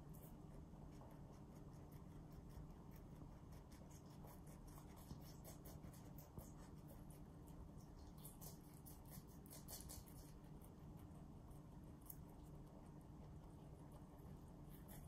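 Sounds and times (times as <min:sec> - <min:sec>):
low room hum: 0:00.0 - 0:15.0
rabbits chewing vegetables: 0:00.0 - 0:15.0.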